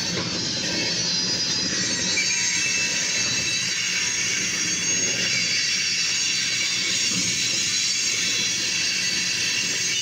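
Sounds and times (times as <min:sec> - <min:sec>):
high wheel squeal: 0:00.0 - 0:10.0
train wheels rumbling on rail: 0:00.0 - 0:10.0.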